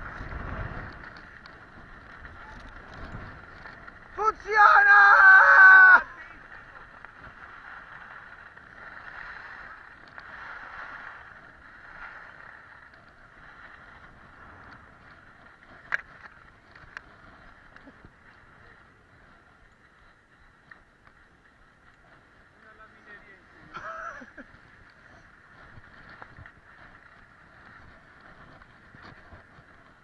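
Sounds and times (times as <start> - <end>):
skis scraping over snow: 0.0 - 30.0.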